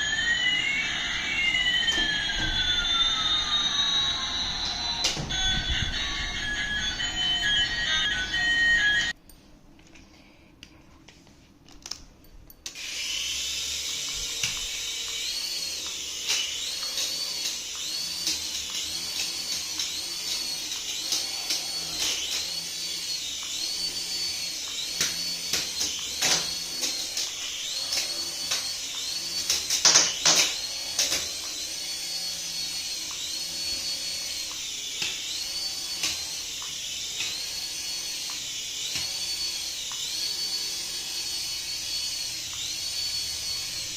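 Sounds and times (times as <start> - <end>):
toy electric motor whining: 0.0 - 9.2, 12.7 - 43.9.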